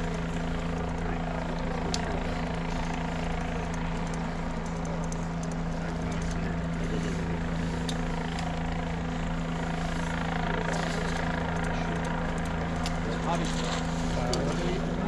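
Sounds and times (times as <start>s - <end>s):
helicopter drone: 0.0s - 15.0s.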